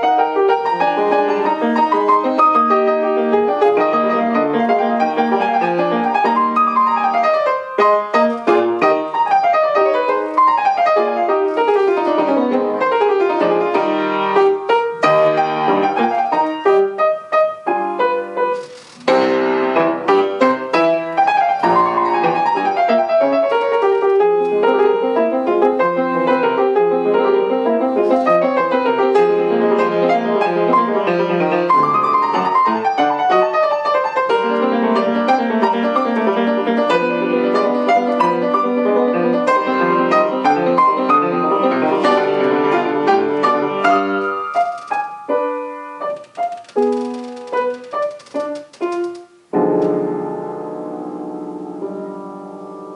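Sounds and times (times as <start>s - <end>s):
solo classical piano: 0.0s - 52.9s.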